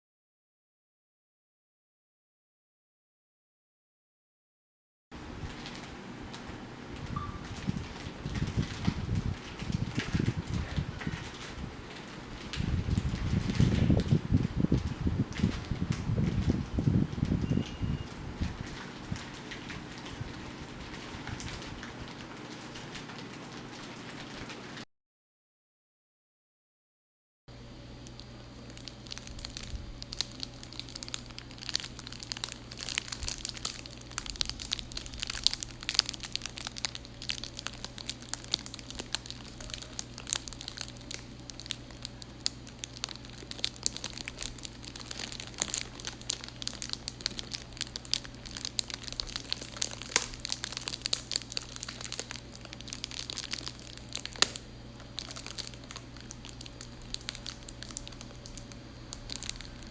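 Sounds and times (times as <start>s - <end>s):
crumpling material crackles: 5.2s - 24.8s, 28.0s - 59.9s.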